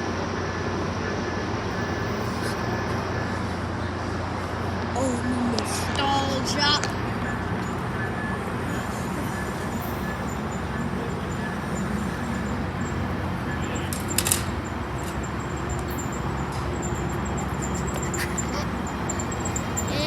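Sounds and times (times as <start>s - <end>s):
train wheels rumbling on rail: 1.7s - 20.0s.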